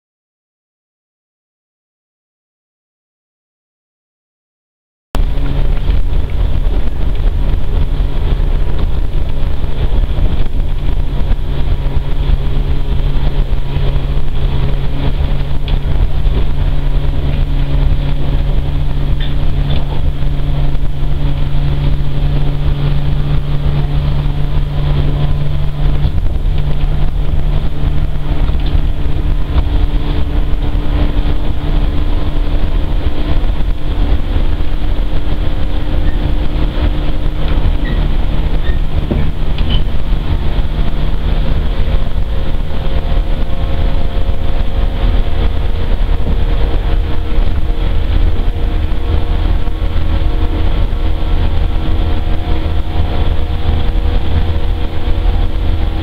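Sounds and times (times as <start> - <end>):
constant low hum: 5.2 - 56.0
train running gear rumble: 5.2 - 56.0.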